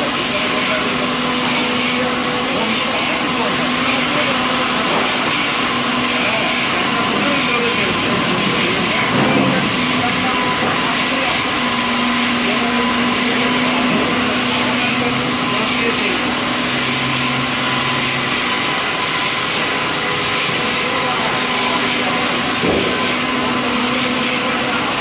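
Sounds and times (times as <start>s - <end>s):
motor hum changing pitch: 0.0s - 25.0s
sawmill machinery running: 0.0s - 25.0s.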